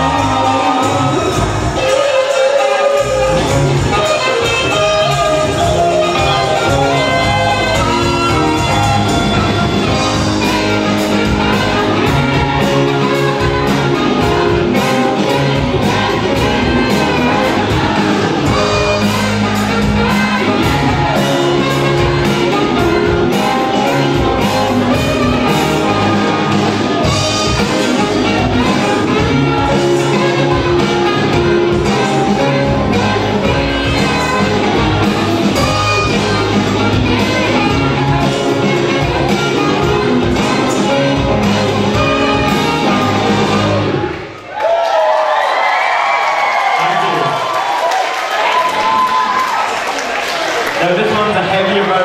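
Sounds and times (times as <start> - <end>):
steady drum beat: 0.0 - 44.1
saxophone: 0.0 - 44.5
live band playing: 0.0 - 52.0.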